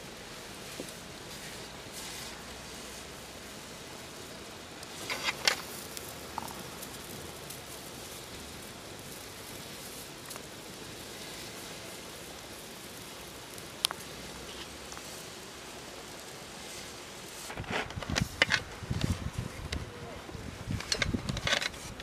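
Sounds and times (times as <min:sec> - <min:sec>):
water boiling in a pot: 0:00.0 - 0:22.0.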